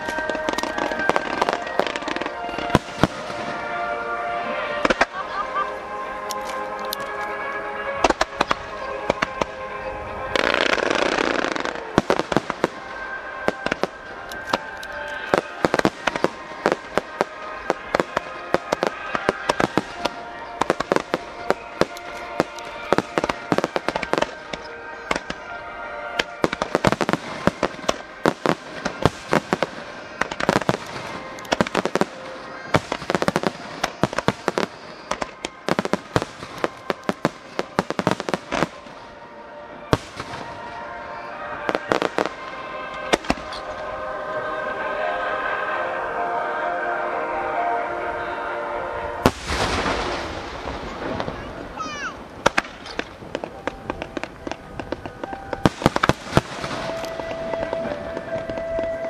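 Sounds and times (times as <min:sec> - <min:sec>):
fireworks bursting: 0:00.0 - 0:06.9, 0:07.9 - 0:45.2, 0:49.2 - 0:59.0
music playing: 0:00.0 - 0:59.0.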